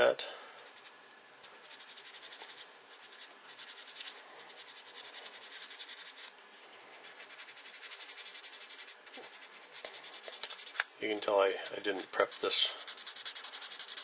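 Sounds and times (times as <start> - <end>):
sandpaper scratching on antler: 0.6 - 6.3, 6.9 - 14.0.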